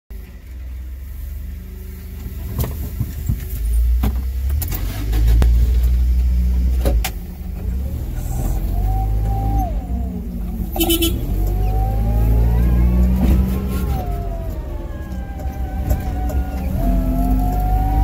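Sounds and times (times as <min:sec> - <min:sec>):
forklift engine humming: 0:00.1 - 0:18.0.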